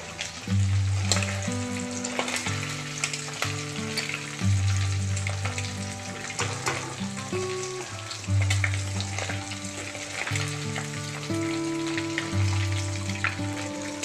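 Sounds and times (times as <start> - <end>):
background music low notes: 0.0 - 14.0
prawns sizzling in oil: 0.0 - 14.0
skimmer scraping and tapping pan: 0.0 - 14.0.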